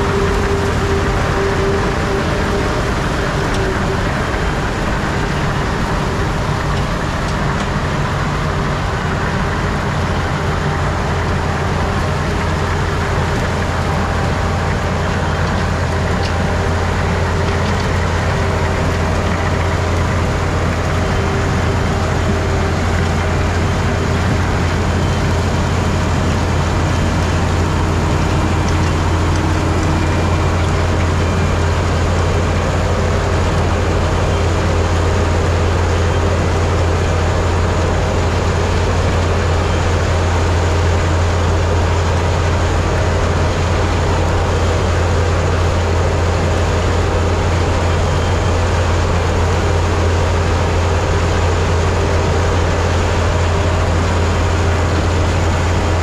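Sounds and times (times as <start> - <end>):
harvester machine droning: 0.0 - 56.0.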